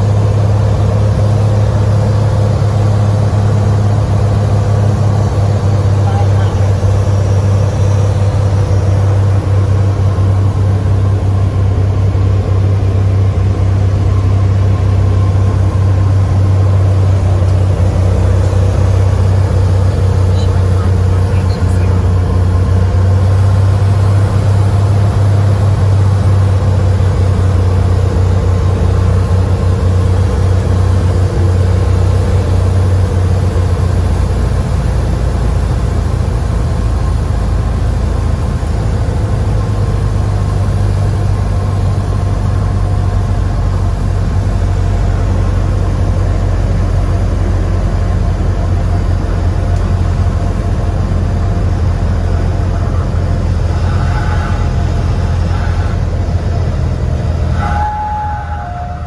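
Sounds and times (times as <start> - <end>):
propeller airplane engine droning: 0.0 - 59.0.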